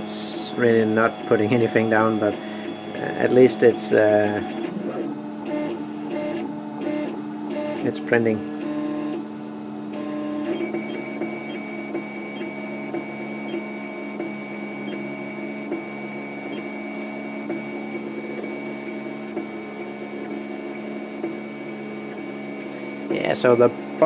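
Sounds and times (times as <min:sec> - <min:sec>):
stepper motors humming and whining: 0:00.0 - 0:24.0.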